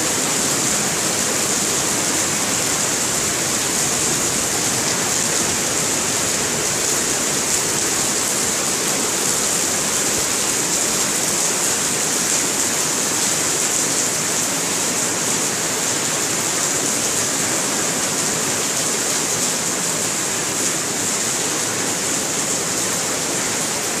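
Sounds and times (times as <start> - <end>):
heavy rain on pavement: 0.0 - 24.0.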